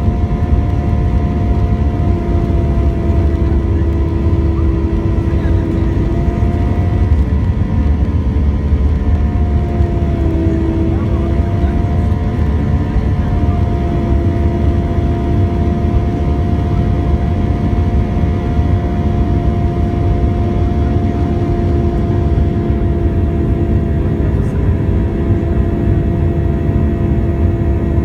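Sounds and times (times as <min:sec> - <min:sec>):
airliner cabin rumble: 0:00.0 - 0:28.0
engine tones humming: 0:00.0 - 0:28.0.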